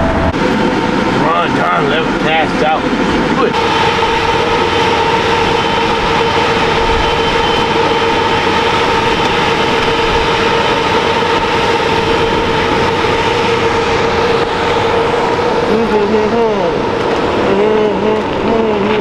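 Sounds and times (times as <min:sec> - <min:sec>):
bus engine running with whine: 0:00.0 - 0:19.0.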